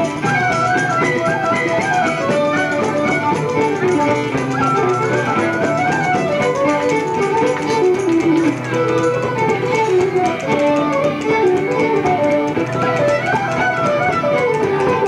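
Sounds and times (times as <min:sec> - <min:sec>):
fiddle playing a tune: 0:00.0 - 0:15.0
guitar accompaniment: 0:00.0 - 0:15.0.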